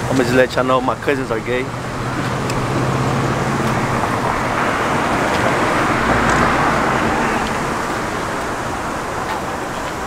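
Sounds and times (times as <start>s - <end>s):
low engine drone: 0.0s - 10.0s
vehicles driving past: 0.0s - 10.0s.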